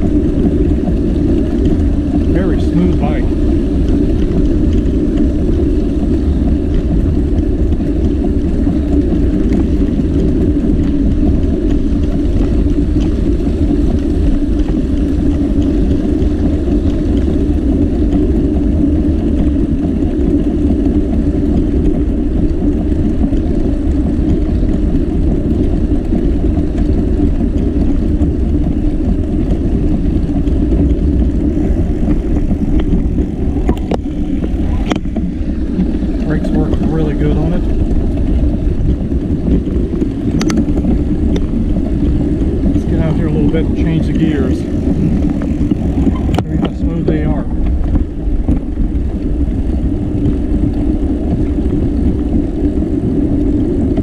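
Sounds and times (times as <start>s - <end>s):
tyres rolling on concrete: 0.0s - 54.0s
wind buffeting microphone: 0.0s - 54.0s.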